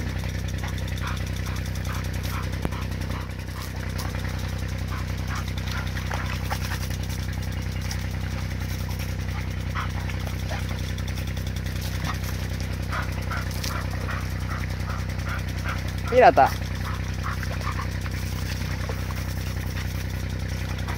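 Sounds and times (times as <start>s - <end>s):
impact sprinkler ticking: 0.0s - 20.9s
small engine humming: 0.0s - 20.9s.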